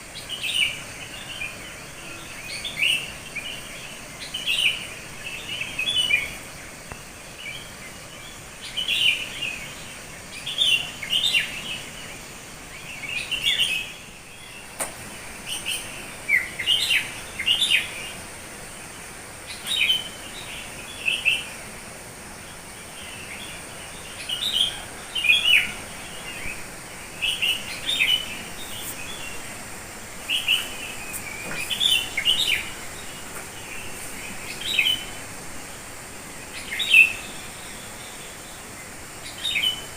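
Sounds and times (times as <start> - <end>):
songbirds chirping: 0.0 - 39.9
steady high hiss: 0.0 - 39.9.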